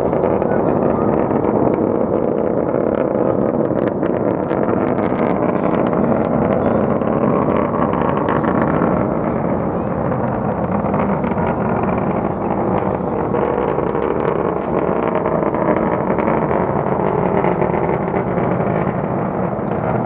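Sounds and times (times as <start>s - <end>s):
distant rocket engine rumble: 0.0s - 20.0s.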